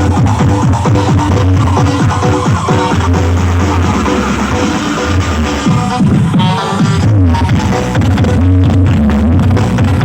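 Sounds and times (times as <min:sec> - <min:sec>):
heavy steady bass: 0:00.0 - 0:10.0
loud electronic dance music: 0:00.0 - 0:10.0.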